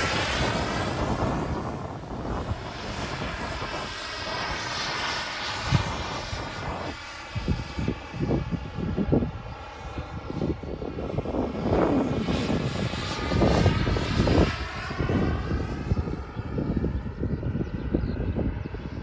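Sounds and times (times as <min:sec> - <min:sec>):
model jet turbine rush and whine: 0:00.0 - 0:19.0.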